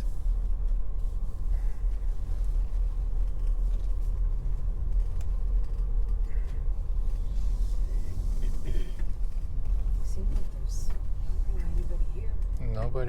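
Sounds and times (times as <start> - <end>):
vehicle driving slowly: 0.0 - 13.0.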